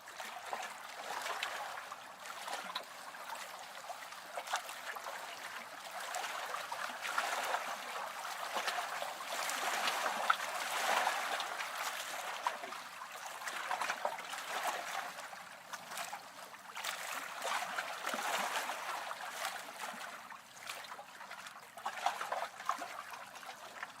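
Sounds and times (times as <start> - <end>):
lake waves lapping shore: 0.2 - 20.2.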